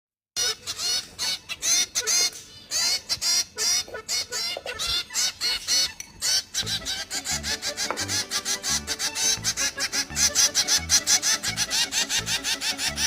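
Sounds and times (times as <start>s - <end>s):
finch calling: 0.4s - 13.0s.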